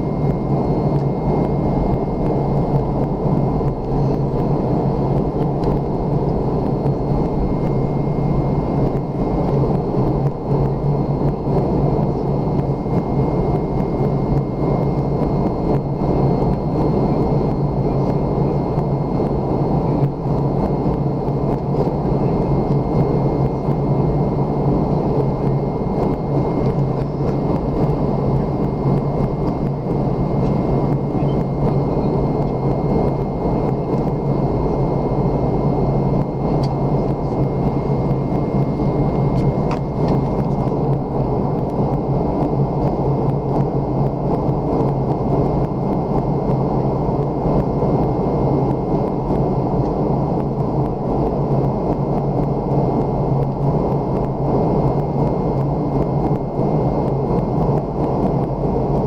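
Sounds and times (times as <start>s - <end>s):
faint high whine: 0.0s - 59.0s
jet engine and airflow rush: 0.0s - 59.0s.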